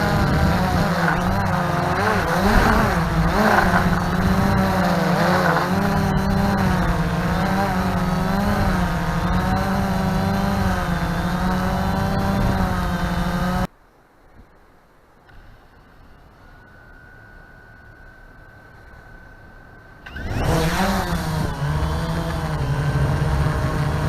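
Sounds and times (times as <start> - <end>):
drone propellers whining: 0.0 - 13.7, 15.3 - 24.0.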